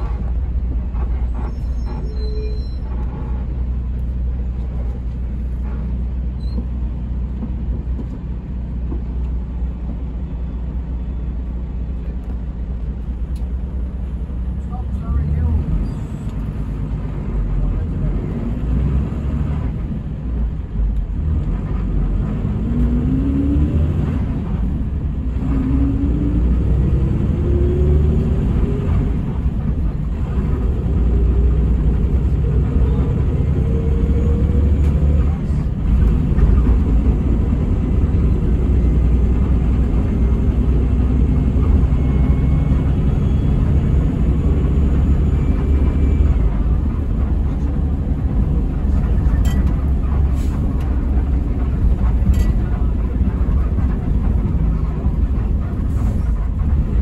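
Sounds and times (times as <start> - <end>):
diesel engine accelerating: 0.0 - 57.0.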